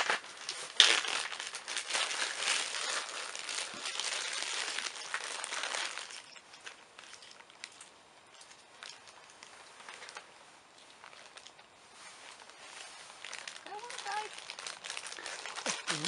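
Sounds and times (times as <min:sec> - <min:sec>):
dense crinkling rustling: 0:00.0 - 0:16.0.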